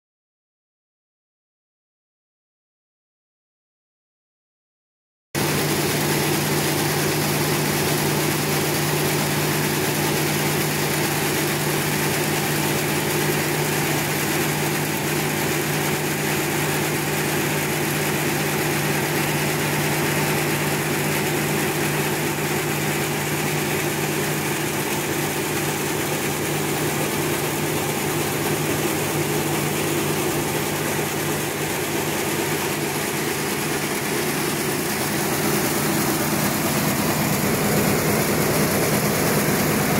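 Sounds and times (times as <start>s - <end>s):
production line machinery humming: 5.4s - 39.9s.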